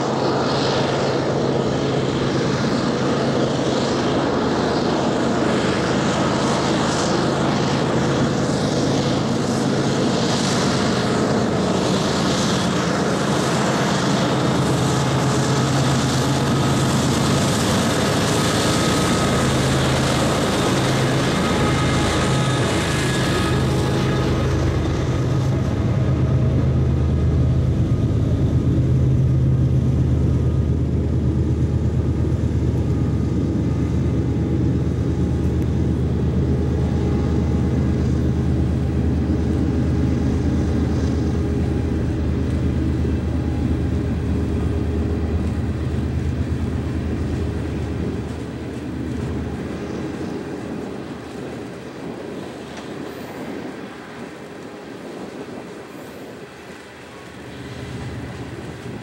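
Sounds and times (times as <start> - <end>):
diesel locomotive engine drone: 0.0 - 59.0
rumble of rolling freight wagons: 0.0 - 59.0.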